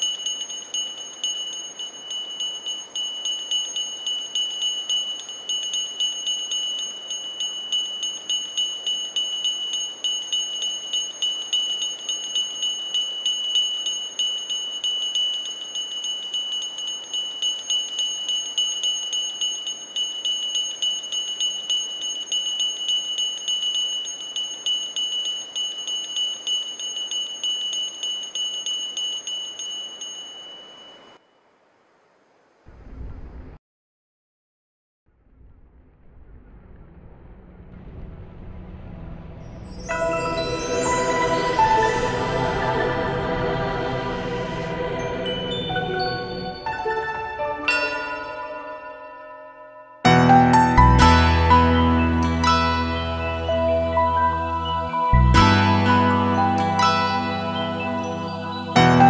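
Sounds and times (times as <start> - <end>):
bells jingling: 0.0 - 31.2, 39.6 - 59.0.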